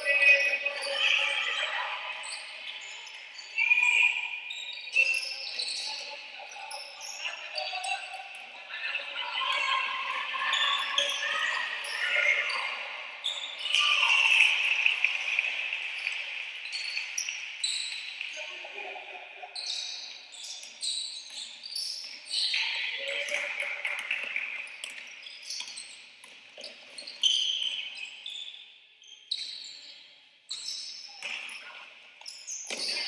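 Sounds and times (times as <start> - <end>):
sneakers squeaking on wooden court: 0.0 - 18.6, 19.5 - 33.0.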